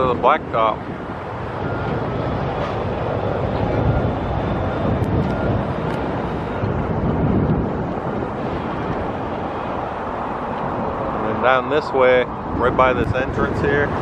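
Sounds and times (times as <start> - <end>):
low rumble of vehicles: 0.0 - 14.0
wind buffeting microphone: 0.0 - 14.0.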